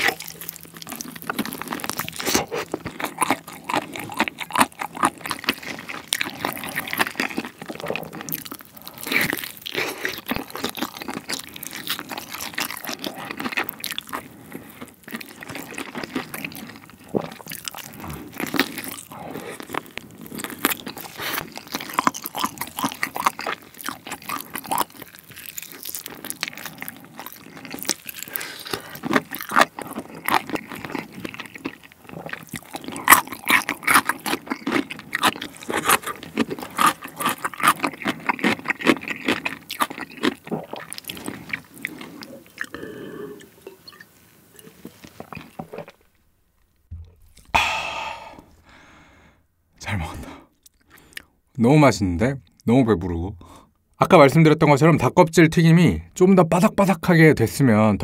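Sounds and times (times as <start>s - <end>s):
crunching and chewing chicken: 0.0s - 47.6s, 49.9s - 51.4s.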